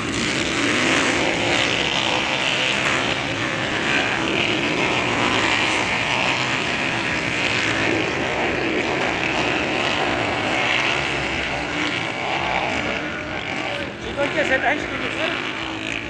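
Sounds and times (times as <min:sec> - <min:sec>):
dirt bike engines droning: 0:00.0 - 0:16.0.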